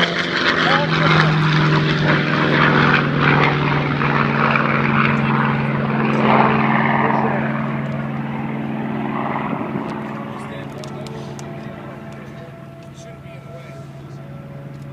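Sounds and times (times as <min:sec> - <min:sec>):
propeller plane engine running: 0:00.0 - 0:14.9.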